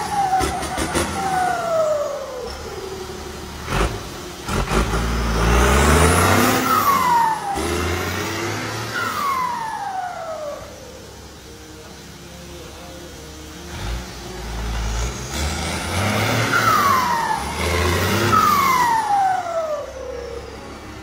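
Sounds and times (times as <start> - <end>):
descending whistle-like tones: 0.0 - 21.0
vehicle engine revving: 0.0 - 21.0.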